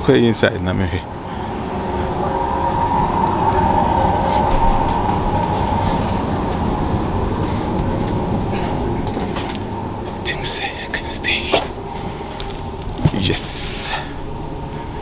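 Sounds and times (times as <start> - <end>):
train rumbling: 0.0 - 15.0
train whine: 0.0 - 15.0.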